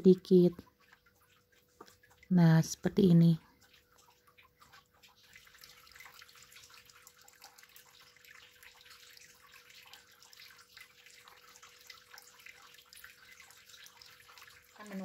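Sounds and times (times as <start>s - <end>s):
pudding mixture pouring and dripping: 0.0s - 15.0s.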